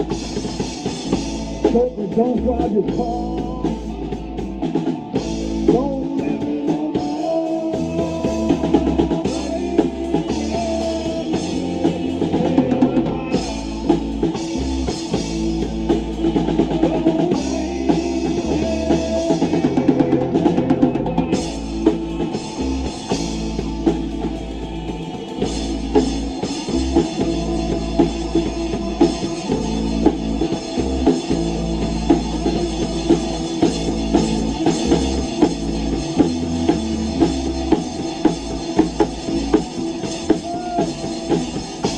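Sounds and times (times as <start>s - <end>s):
bass and snare drum beat: 0.0s - 41.9s
rock band playing: 0.0s - 41.9s.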